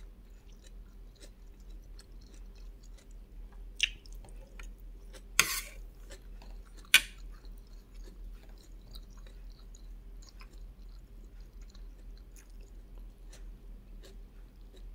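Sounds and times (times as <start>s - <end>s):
low steady hum: 0.0s - 14.9s
wet chewing mouth clicks: 0.3s - 3.2s, 3.8s - 5.3s, 6.0s - 14.9s.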